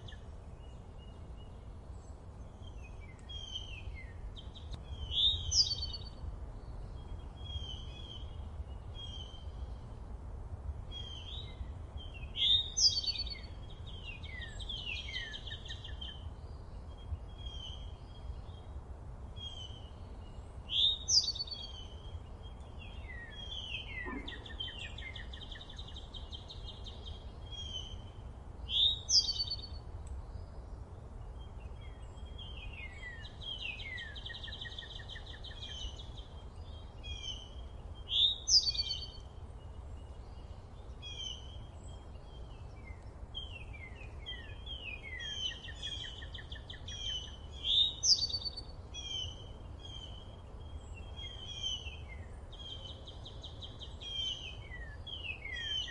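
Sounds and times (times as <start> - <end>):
songbirds singing: 0.0 - 55.9.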